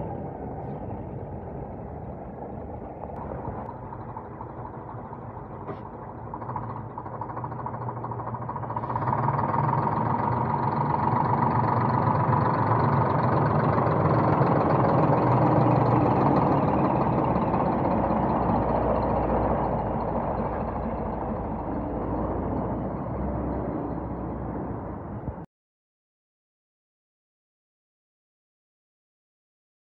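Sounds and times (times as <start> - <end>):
truck diesel engine driving past: 0.0 - 25.4.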